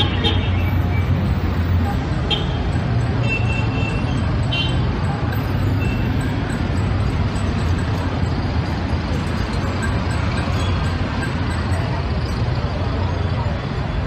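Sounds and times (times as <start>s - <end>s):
road noise: 0.0s - 14.0s
vehicle engines running: 0.0s - 14.0s.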